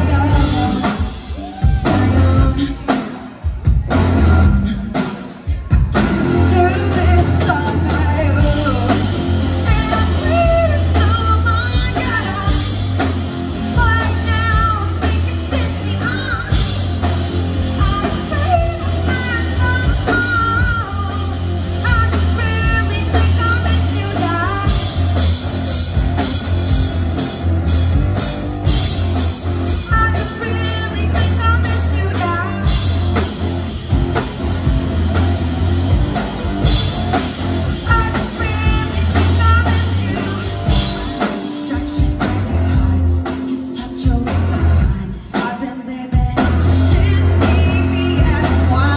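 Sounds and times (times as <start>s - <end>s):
person singing: 0.0s - 26.4s, 29.6s - 33.4s, 36.6s - 48.9s
bass guitar: 0.0s - 48.9s
drum kit: 0.0s - 48.9s
electric guitars: 0.0s - 48.9s.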